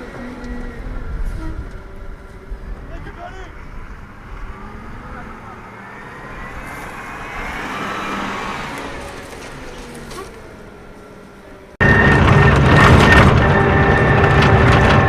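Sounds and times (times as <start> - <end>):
engine drone with whine: 0.0 - 15.0
vehicle engine: 0.0 - 15.0.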